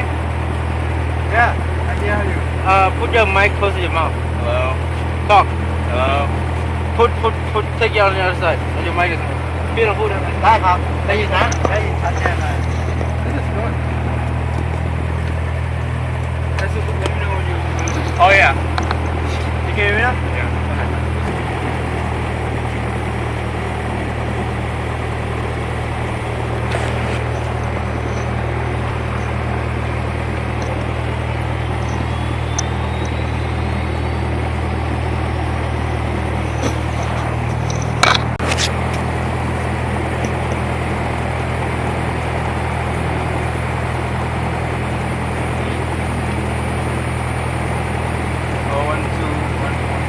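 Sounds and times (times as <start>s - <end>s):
airplane engine idling: 0.0s - 50.0s.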